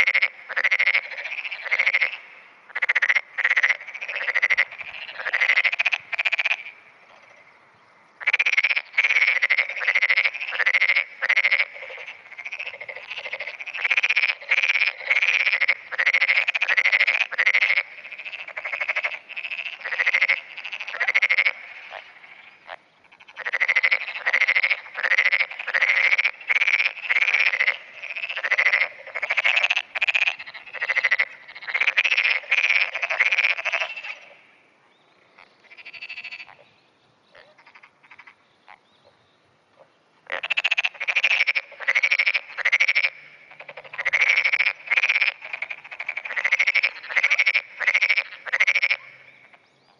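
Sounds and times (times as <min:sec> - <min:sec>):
frog croaking: 0:00.0 - 0:07.6, 0:08.2 - 0:34.6, 0:35.2 - 0:36.7, 0:37.3 - 0:39.2, 0:39.8 - 0:49.7.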